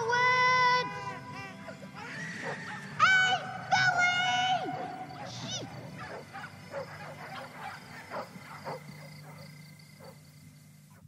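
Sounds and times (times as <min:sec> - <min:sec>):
animal cries: 0:00.0 - 0:10.2.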